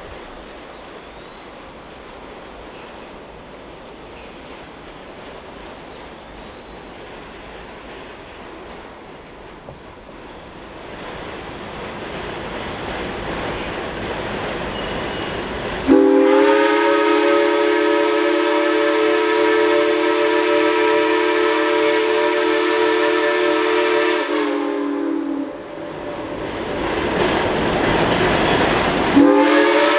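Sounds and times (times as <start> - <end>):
steam locomotive running: 0.0 - 29.9.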